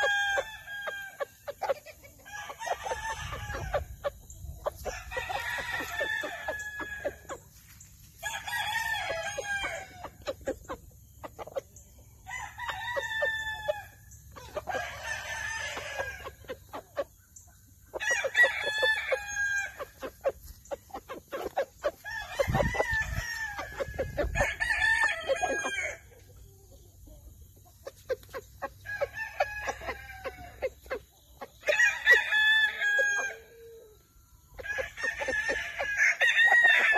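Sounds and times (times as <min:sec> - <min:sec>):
roosters crowing: 0:00.0 - 0:07.4, 0:08.1 - 0:10.8, 0:12.2 - 0:17.0, 0:17.9 - 0:26.1, 0:28.6 - 0:36.9.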